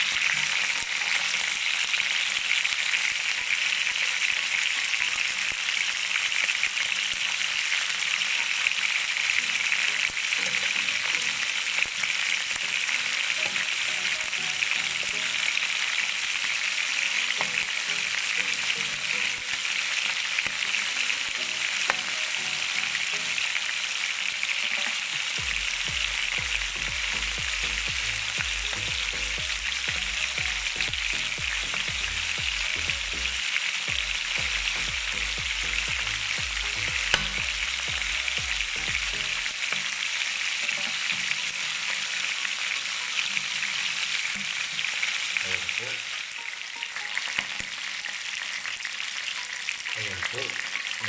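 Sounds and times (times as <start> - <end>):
chicken sizzling in a frying pan: 0.0 - 51.0.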